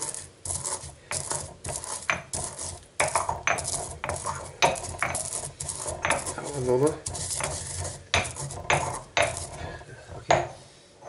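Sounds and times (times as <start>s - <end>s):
pestle pounding in stone mortar: 0.0s - 10.5s.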